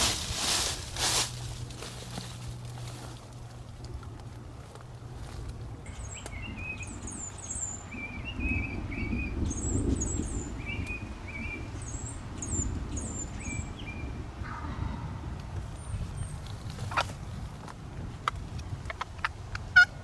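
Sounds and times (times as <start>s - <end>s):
songbirds chirping: 0.0s - 20.0s
steady low rumble: 0.0s - 20.0s.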